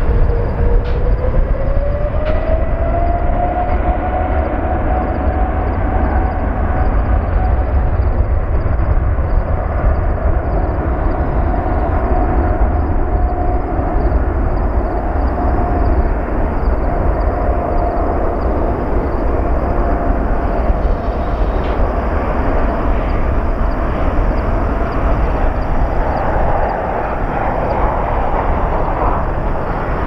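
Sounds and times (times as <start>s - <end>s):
jet engines running at high power: 0.0s - 30.0s.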